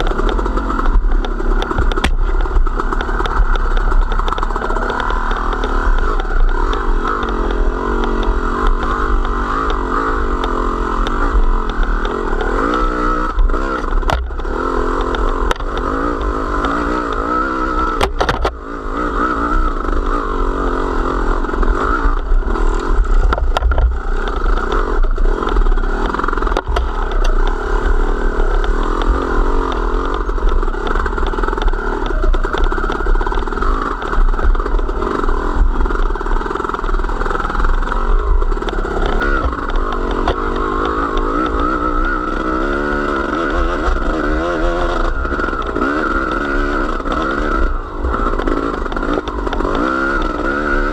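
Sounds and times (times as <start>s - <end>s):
small vehicle engine running: 0.0s - 50.9s.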